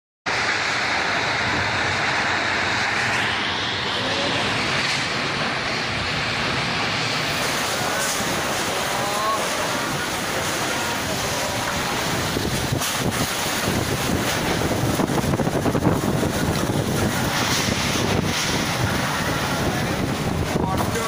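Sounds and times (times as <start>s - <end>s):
strong wind buffeting microphone: 0.3s - 21.0s.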